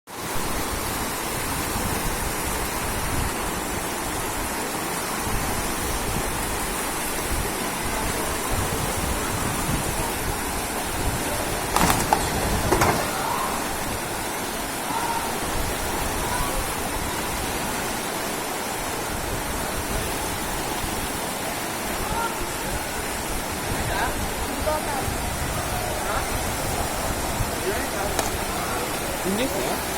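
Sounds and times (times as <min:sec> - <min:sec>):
floodwater rushing: 0:00.1 - 0:29.9.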